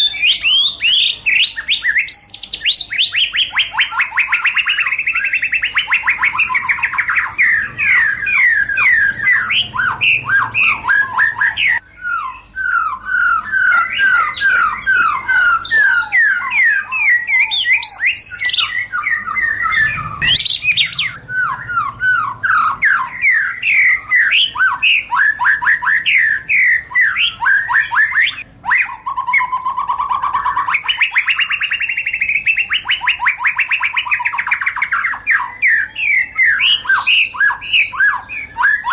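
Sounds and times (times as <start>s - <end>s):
songbird singing chattering notes: 0.0s - 38.9s.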